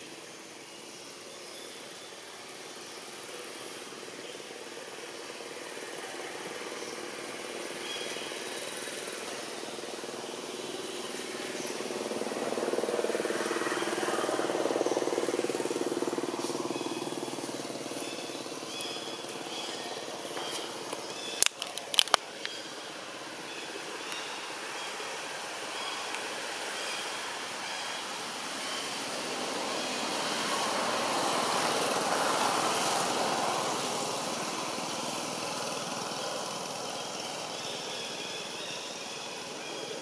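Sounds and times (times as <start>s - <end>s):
distant vehicle engine passing: 4.8s - 21.5s, 22.5s - 38.3s.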